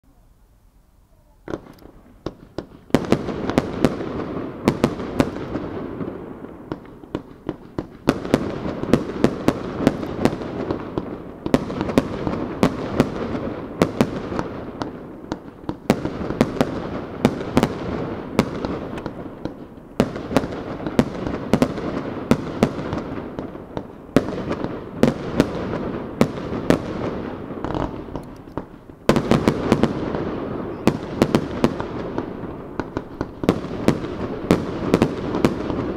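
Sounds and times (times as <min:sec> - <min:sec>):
fireworks bangs: 0:01.3 - 0:35.9.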